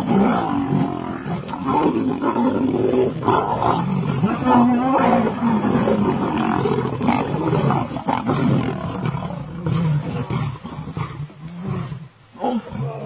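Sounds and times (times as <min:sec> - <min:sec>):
lionesses growling and roaring: 0:00.0 - 0:13.0.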